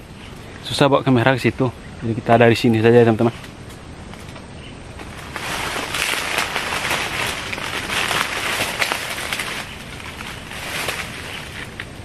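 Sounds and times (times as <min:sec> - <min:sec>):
leaves and twigs rustling and crackling: 0:00.0 - 0:12.0.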